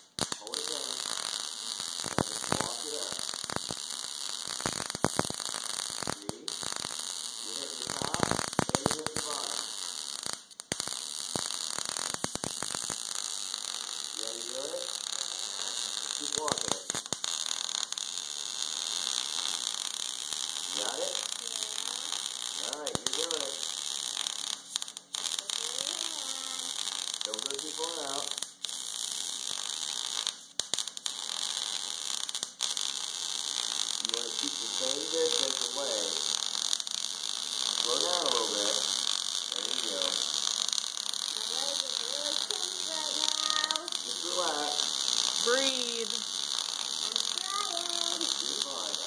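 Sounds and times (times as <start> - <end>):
welder arc crackling hiss: 0.0 - 49.0.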